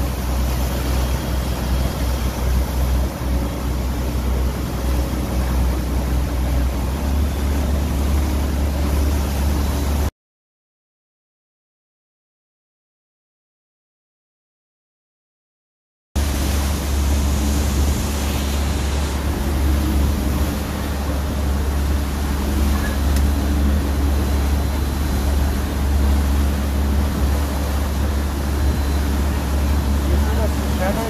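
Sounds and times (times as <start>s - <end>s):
boat engine droning: 0.0s - 10.1s, 16.2s - 31.0s
churning wake water: 0.0s - 10.1s, 16.2s - 31.0s.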